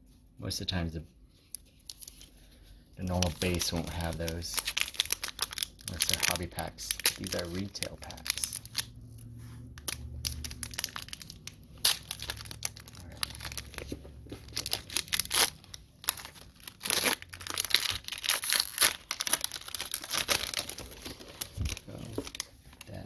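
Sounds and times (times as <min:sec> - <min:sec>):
card pack wrapper crinkling: 0:01.5 - 0:02.3, 0:03.0 - 0:23.0.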